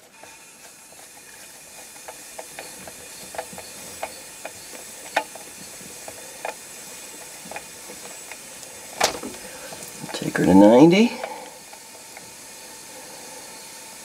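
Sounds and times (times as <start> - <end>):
compressed air hissing: 0.0 - 14.0.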